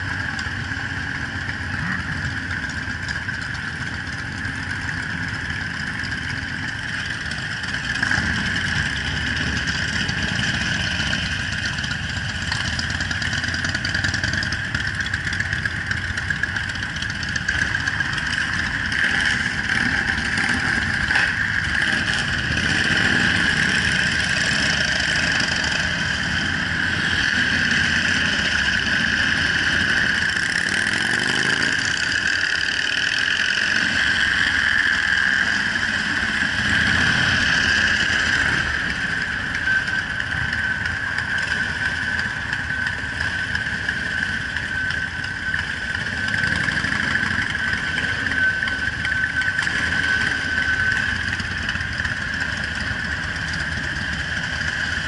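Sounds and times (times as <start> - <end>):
motorcycle engines running: 0.0 - 55.0
steady high-pitched whine: 0.0 - 55.0.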